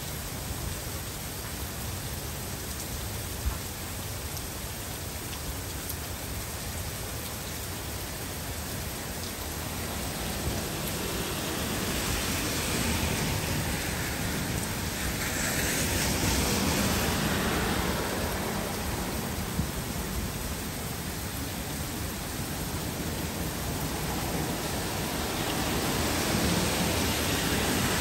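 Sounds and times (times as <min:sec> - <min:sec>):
heavy rain on trees and street: 0:00.0 - 0:28.0.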